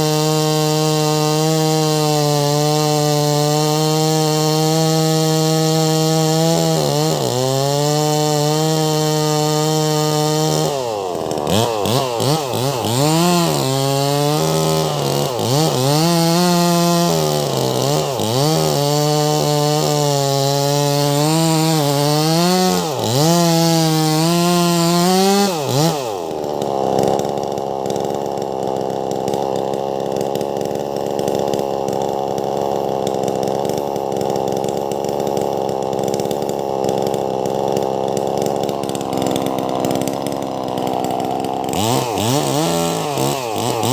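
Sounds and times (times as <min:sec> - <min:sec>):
chainsaw cutting into log: 0:00.0 - 0:43.9.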